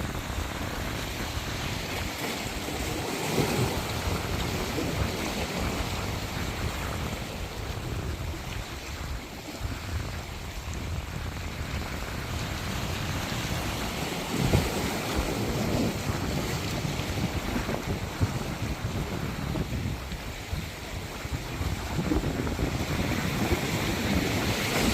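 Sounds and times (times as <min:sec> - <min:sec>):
sea waves washing onto beach: 0:00.0 - 0:24.9.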